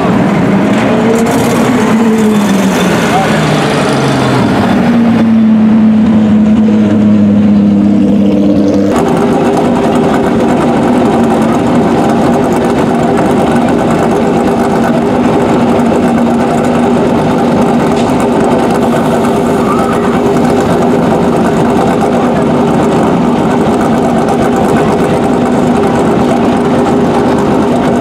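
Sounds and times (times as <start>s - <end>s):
race car engine idling: 0.0s - 28.0s.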